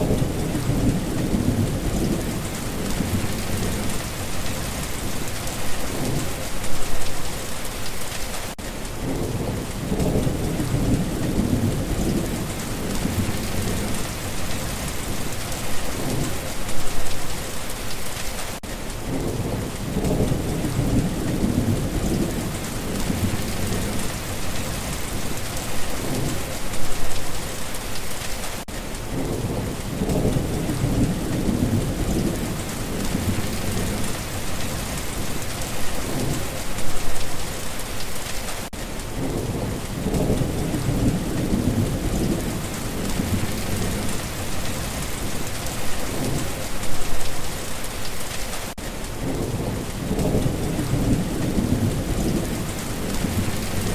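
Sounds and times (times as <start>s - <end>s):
rolling thunder rumbles: 0.0s - 7.6s, 9.0s - 17.6s, 19.0s - 27.2s, 29.1s - 37.3s, 39.1s - 47.5s, 49.1s - 53.9s
heavy rain pattering: 0.0s - 53.9s.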